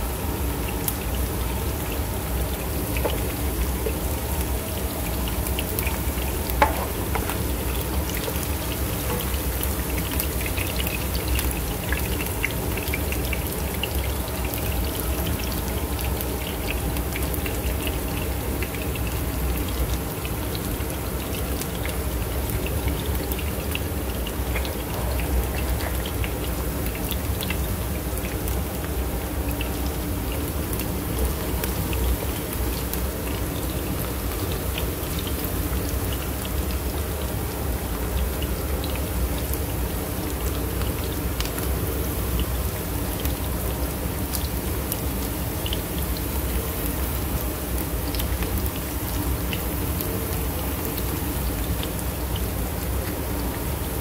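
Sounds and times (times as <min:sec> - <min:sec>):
onions frying in oil: 0:00.0 - 0:54.0.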